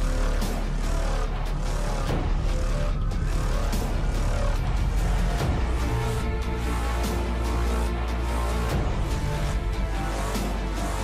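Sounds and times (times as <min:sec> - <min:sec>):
music with deep bass: 0:00.0 - 0:11.0.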